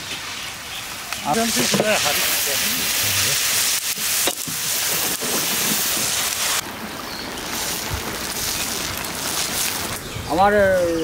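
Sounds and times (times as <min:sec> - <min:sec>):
curry sizzling in metal pan: 0:00.0 - 0:10.1.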